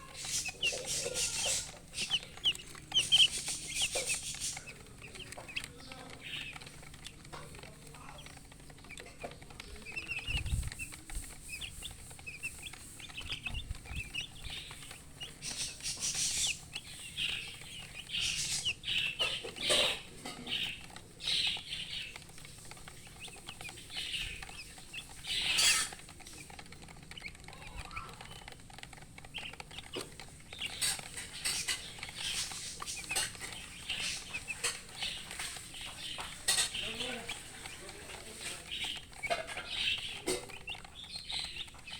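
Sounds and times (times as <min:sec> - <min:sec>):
chicks cheeping: 0:00.0 - 0:41.9
hen clucking: 0:00.0 - 0:41.9
scratchy bursts: 0:00.0 - 0:41.9.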